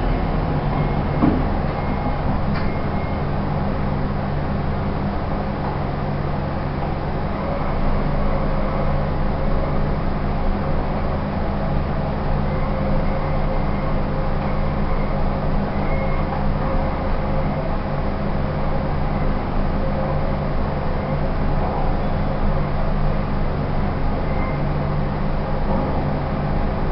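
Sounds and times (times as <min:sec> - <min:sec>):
elevator machine hum: 0:00.0 - 0:26.9.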